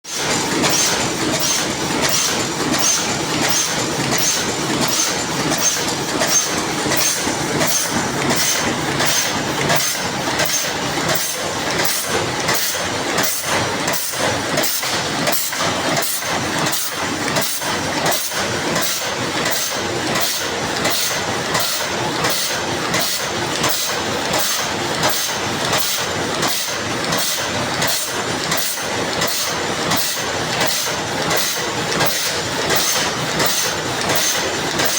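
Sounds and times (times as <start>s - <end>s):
mechanical clatter: 0.1s - 34.9s
paper cup machine clacking: 0.1s - 34.9s.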